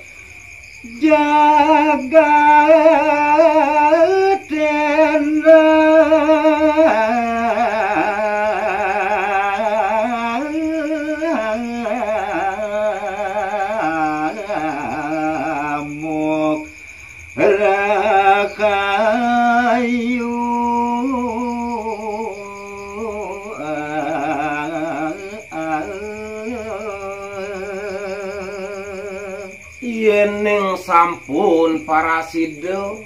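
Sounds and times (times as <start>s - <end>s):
man singing long ornamented notes: 0.8s - 33.0s.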